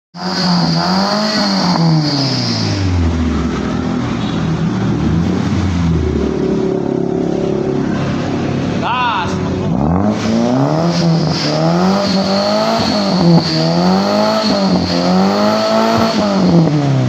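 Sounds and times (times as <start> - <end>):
car engine with racing exhaust: 0.1 - 17.0.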